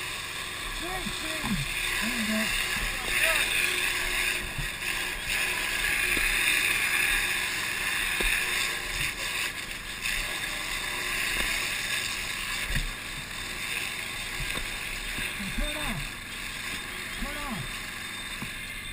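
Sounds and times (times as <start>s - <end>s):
hose spraying water: 0.0s - 18.9s.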